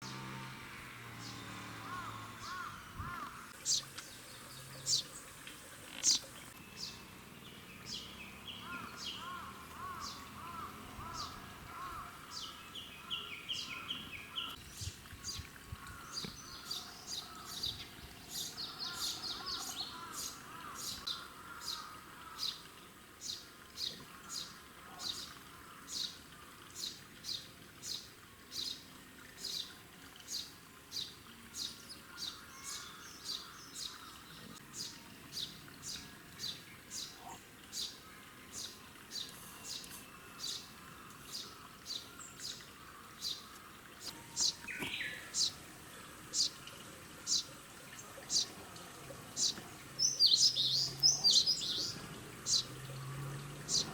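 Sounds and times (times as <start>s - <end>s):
small birds warbling and chattering: 1.2s - 53.9s.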